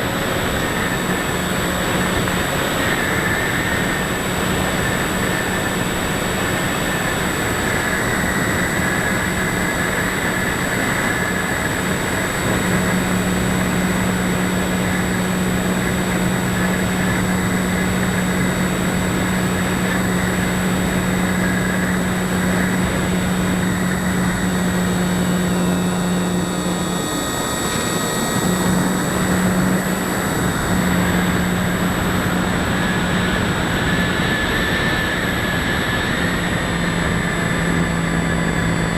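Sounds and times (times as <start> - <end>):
model plane motor whining: 0.0 - 38.9.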